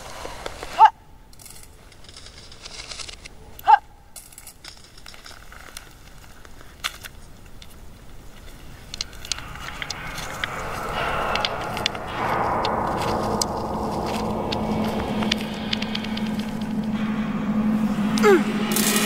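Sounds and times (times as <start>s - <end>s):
small clicks of stones: 0.0s - 16.7s.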